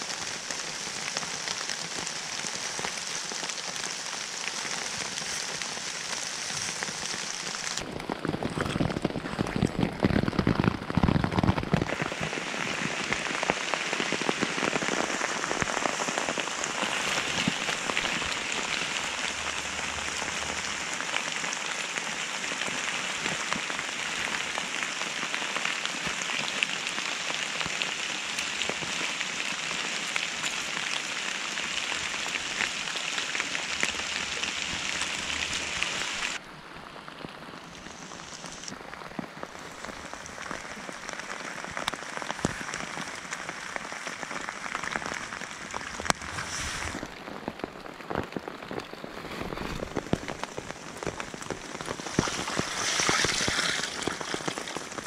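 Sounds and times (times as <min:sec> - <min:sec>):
rain falling on leaf litter: 0:00.0 - 0:55.0.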